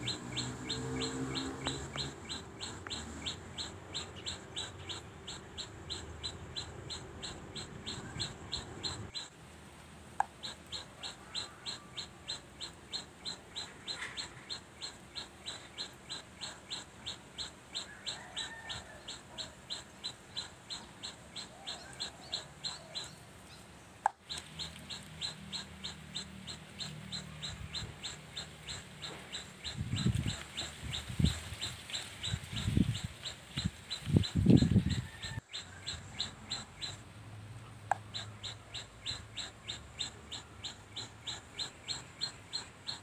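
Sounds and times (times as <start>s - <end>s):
high repeated chirping: 0.0s - 9.3s, 10.2s - 23.2s, 24.1s - 37.0s, 37.9s - 43.0s.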